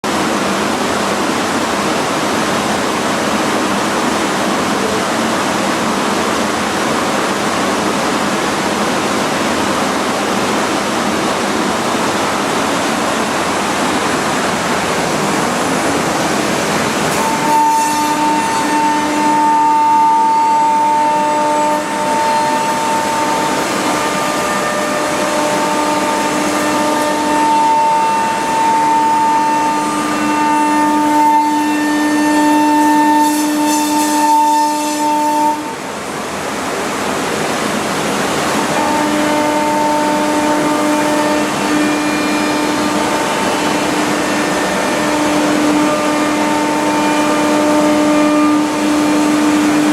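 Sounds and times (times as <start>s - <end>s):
high spindle whine: 0.0s - 35.8s, 38.5s - 49.9s.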